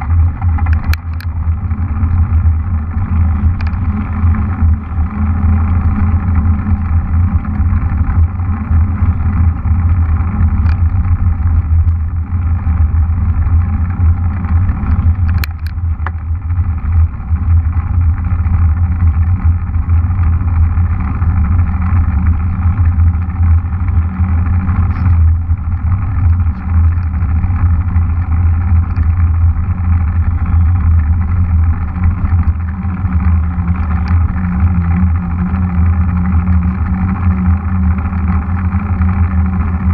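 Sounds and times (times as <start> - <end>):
wind and tyre rumble: 0.0 - 39.9.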